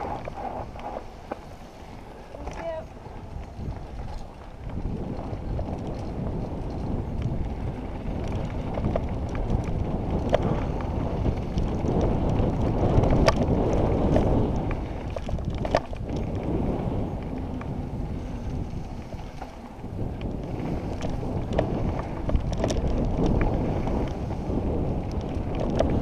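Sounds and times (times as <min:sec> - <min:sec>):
bike rattling clicks: 0:00.0 - 0:26.0
wind rushing over microphone: 0:00.0 - 0:26.0.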